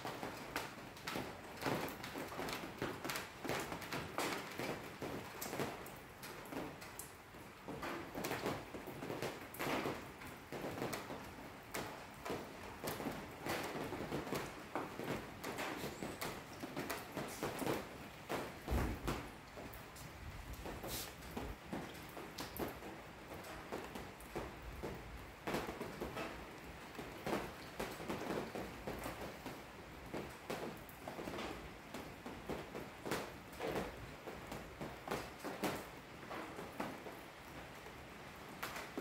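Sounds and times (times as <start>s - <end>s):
faint rain hiss: 0.0s - 39.0s
raindrops tapping: 0.0s - 39.0s.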